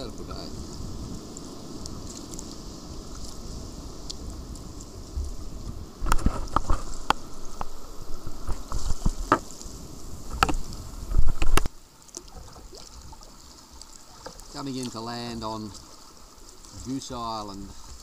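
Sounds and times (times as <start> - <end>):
paddle strokes splashing: 0.0 - 18.0.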